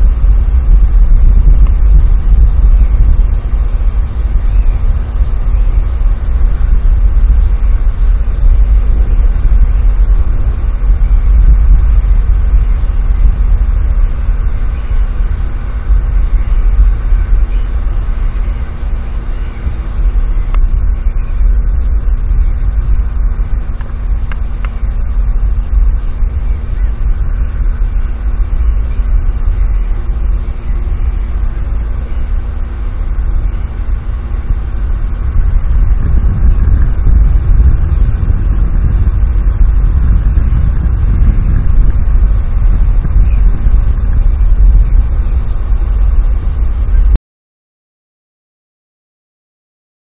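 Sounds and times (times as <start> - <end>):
faint steady hum: 0.0 - 47.2
wind buffeting microphone: 0.0 - 47.2.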